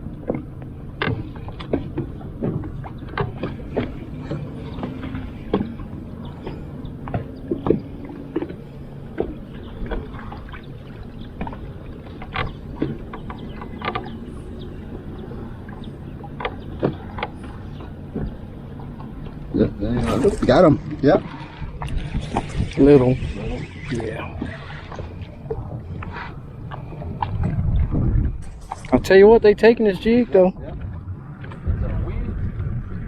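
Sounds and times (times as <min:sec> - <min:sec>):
knocks and clicks against hull: 0:00.0 - 0:29.4, 0:30.6 - 0:33.0.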